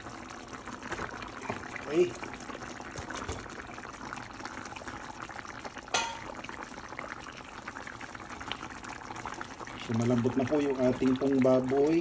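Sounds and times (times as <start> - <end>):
sauce bubbling in a pot: 0.0 - 12.0.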